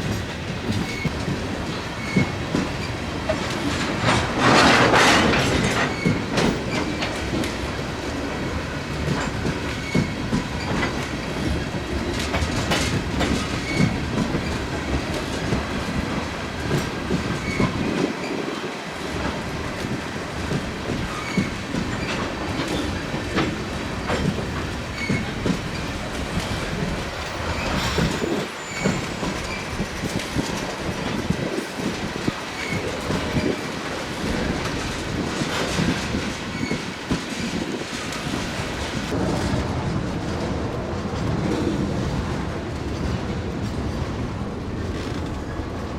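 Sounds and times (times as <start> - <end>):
train wheels clacking over joints: 0.0 - 39.2.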